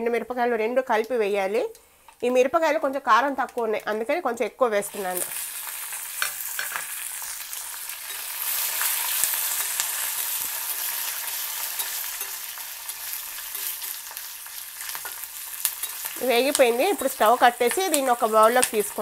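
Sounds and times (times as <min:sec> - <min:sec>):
chillies sizzling in hot oil: 0:00.1 - 0:19.0.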